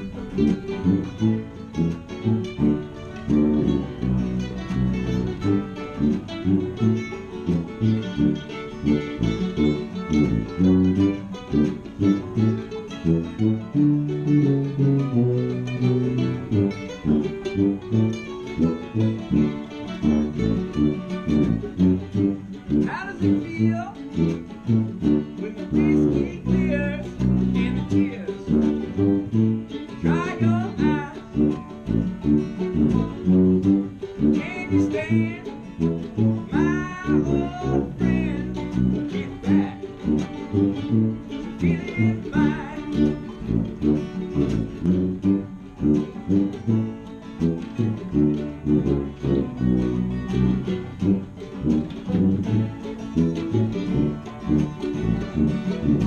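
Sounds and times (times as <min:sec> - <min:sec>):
fiddle playing: 0:00.0 - 0:56.0
strummed acoustic guitar: 0:00.0 - 0:56.0
tuba bass line: 0:00.0 - 0:56.0.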